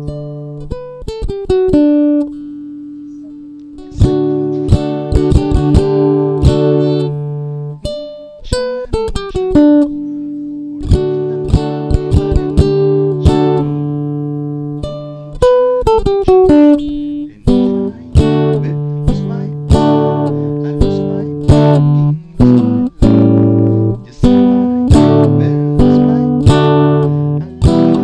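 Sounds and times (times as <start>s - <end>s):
guitar chords ringing: 0.0s - 28.0s
guitar single notes descending: 0.0s - 28.0s.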